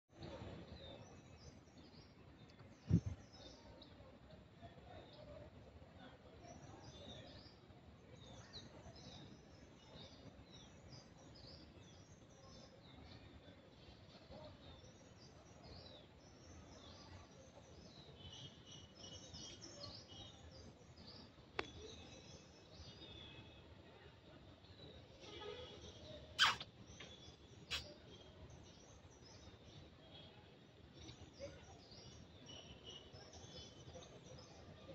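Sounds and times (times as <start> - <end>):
small birds chirping: 0.1 - 4.1, 6.0 - 23.7, 24.6 - 34.9.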